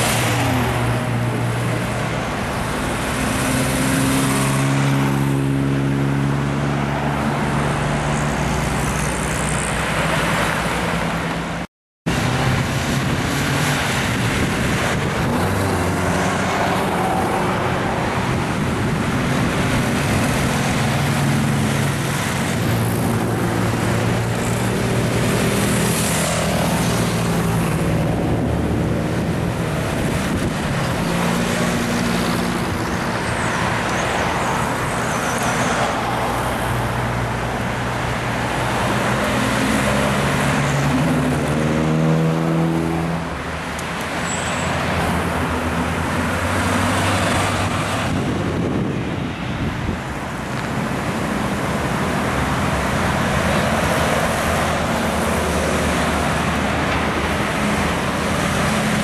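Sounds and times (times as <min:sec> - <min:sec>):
tyre noise on road: 0:00.0 - 0:59.0.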